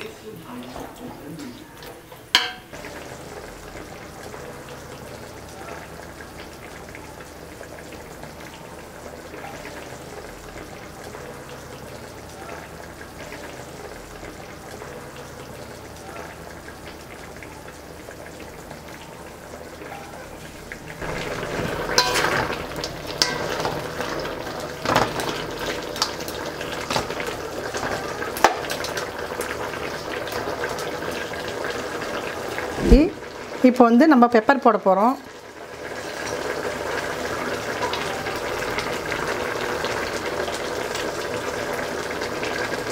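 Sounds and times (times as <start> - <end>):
curry boiling in a pot: 0.0 - 42.9.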